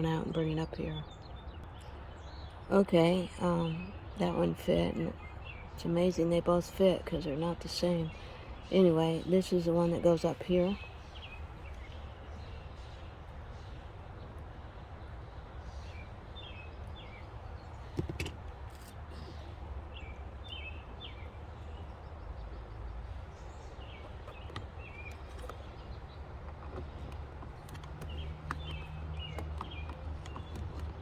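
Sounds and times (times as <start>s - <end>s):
low outdoor hum: 0.0s - 31.0s
small birds chirping: 0.0s - 31.0s.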